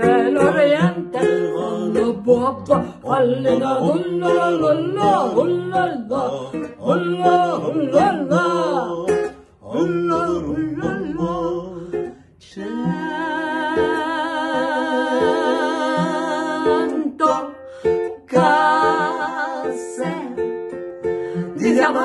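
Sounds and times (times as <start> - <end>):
man and woman singing a duet: 0.0 - 22.0
strummed acoustic guitar: 0.0 - 22.0.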